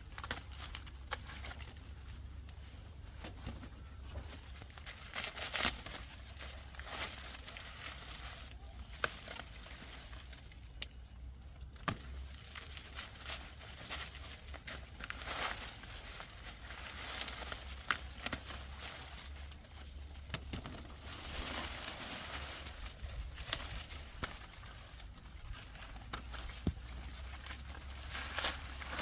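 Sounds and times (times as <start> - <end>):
rustling and crinkling: 0.0 - 29.0.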